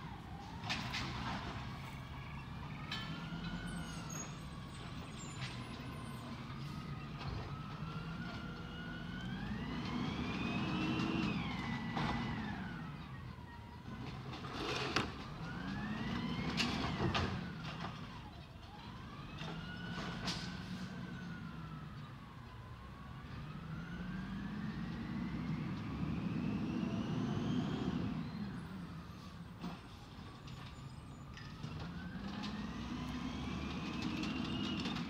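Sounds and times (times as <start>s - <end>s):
truck engine and hydraulic pump whine: 0.0s - 35.0s.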